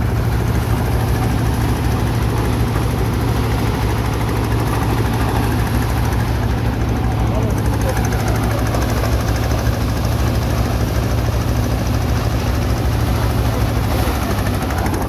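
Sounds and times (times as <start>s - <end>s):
threshing machine droning: 0.0s - 15.0s.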